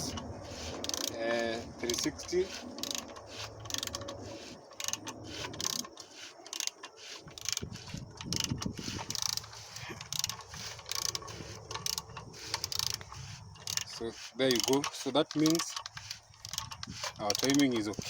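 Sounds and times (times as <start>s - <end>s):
ratchet wrench clicking: 0.0s - 18.0s.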